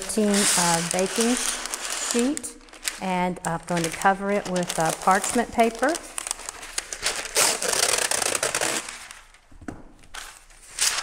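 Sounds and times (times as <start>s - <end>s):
parchment paper crinkling: 0.0s - 11.0s.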